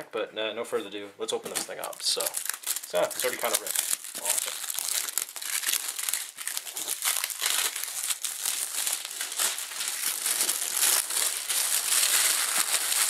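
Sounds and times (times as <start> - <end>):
plastic film crinkling: 1.4 - 13.0.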